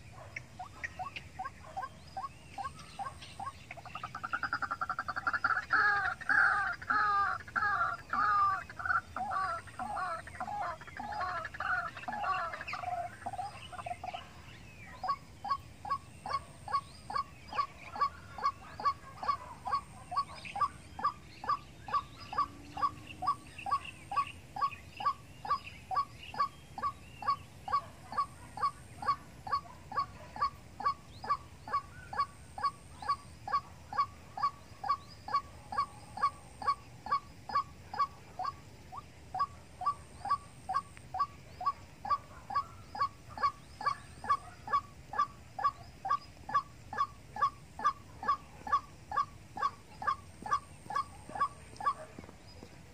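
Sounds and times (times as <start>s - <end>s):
waterhen calling: 0.0s - 52.7s.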